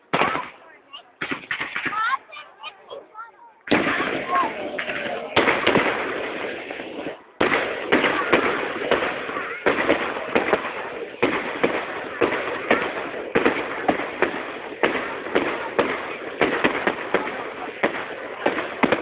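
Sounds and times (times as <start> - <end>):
firework bangs: 0.0 - 3.0, 3.6 - 19.0
crackling of bursting shells: 1.2 - 2.0, 3.7 - 19.0.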